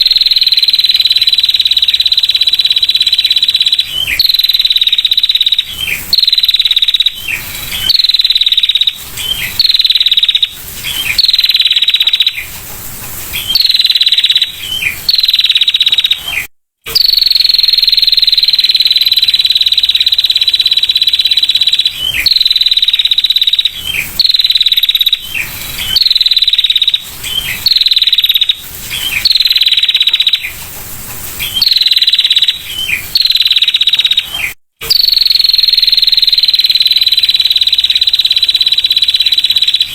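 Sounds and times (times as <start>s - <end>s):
bird's high-pitched ticking trill: 0.0s - 12.5s, 13.3s - 30.6s, 31.4s - 39.9s.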